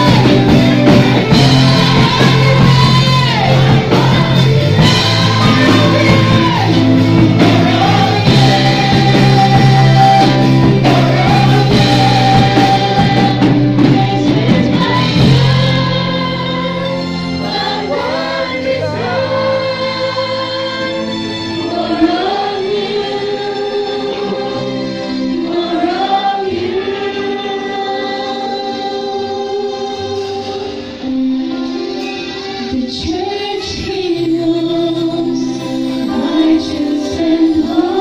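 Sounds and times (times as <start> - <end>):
woman singing: 0.0 - 30.7, 32.6 - 38.0
electric guitars: 0.0 - 38.0.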